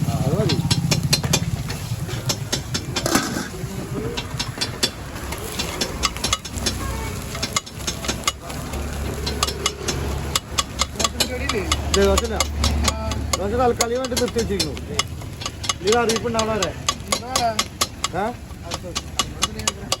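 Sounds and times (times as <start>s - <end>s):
metal spatulas clanging on griddle: 0.4s - 20.0s.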